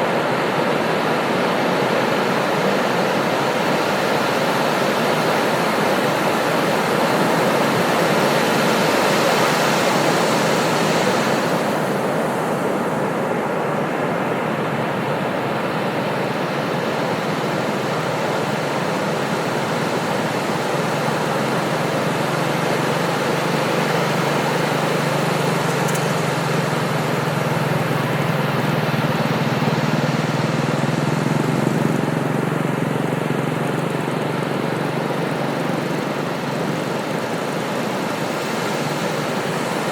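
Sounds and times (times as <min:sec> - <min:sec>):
engine drone: 0:00.0 - 0:39.9
ocean surf on beach: 0:00.0 - 0:39.9.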